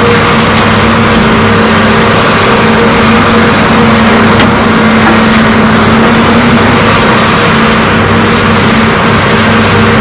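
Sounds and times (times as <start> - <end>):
excavator diesel engines running: 0.0 - 10.0.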